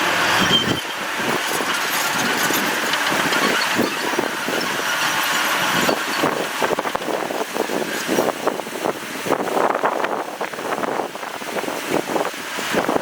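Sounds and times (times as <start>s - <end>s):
heavy construction machinery engine: 0.0s - 13.0s.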